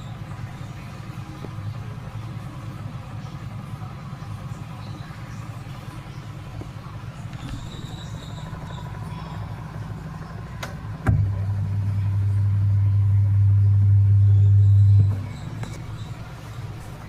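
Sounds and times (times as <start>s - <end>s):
loud electric hum: 0.0s - 17.0s
washing machine hum: 0.0s - 17.0s.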